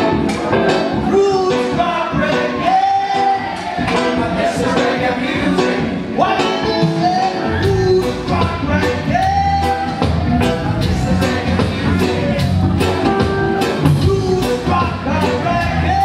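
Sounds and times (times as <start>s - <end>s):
bass guitar: 0.0s - 16.0s
reggae band playing: 0.0s - 16.0s
man singing: 1.0s - 16.0s.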